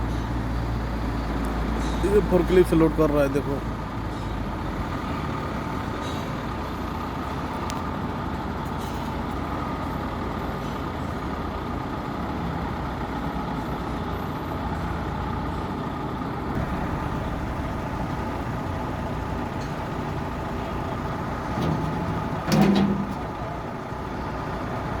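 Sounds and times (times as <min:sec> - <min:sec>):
heavy machinery engine running: 0:00.0 - 0:25.0.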